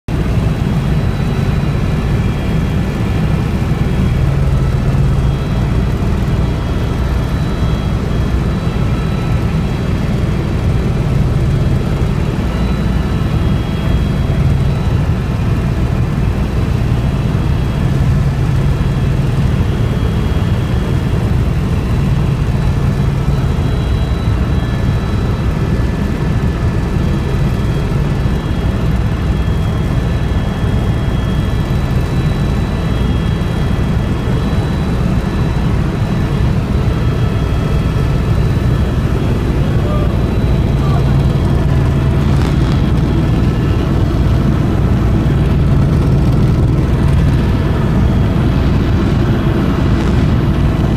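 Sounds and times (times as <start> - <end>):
helicopter engine and rotor drone: 0.1 - 50.9.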